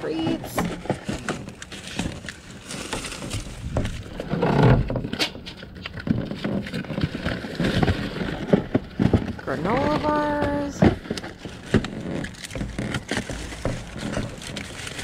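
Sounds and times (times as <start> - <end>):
rustling of trash bags: 0.0 - 15.0.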